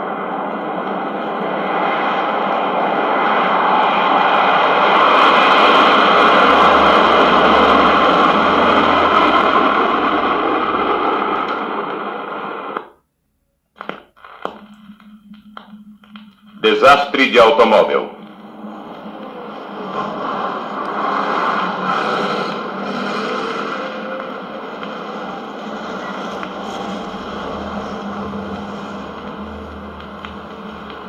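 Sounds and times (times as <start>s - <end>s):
jet engine rush: 0.0s - 12.9s, 14.5s - 31.0s.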